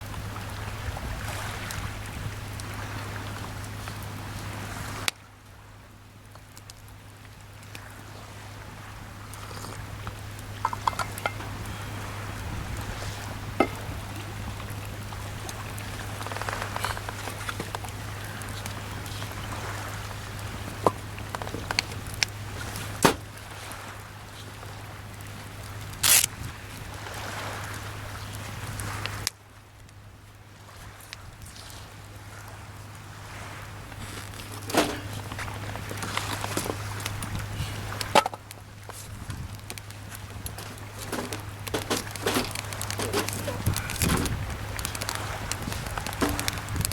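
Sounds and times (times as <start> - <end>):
campfire crackling: 0.0 - 46.9
sea waves washing onto shore: 0.0 - 46.9.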